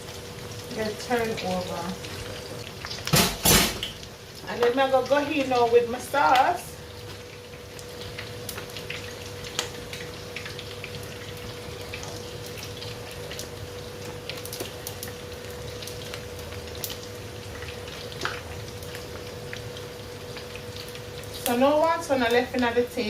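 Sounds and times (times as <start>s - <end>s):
chicken sizzling and crackling: 0.0s - 23.0s.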